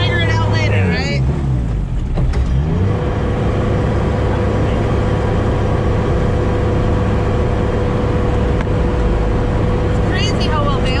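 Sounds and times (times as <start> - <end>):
diesel engine droning: 0.0 - 11.0
even engine whine: 0.0 - 11.0.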